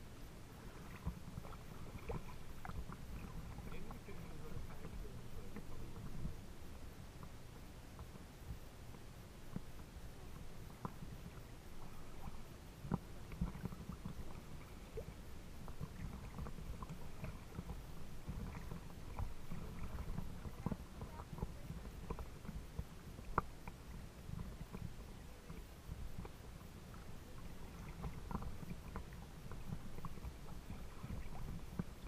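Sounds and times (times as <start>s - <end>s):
small waves lapping: 0.0s - 32.0s
small water splashes: 0.4s - 6.5s, 8.9s - 32.0s.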